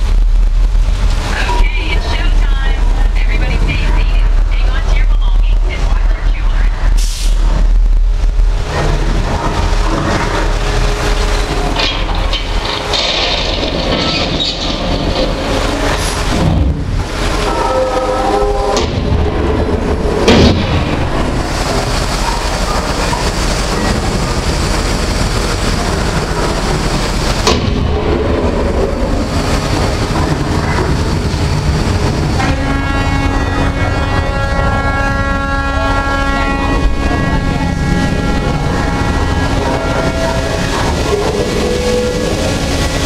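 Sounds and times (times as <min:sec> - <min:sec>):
droning tone with several pitches: 0:00.0 - 0:43.0
rushing water: 0:00.0 - 0:43.0
steady rain: 0:00.0 - 0:43.0.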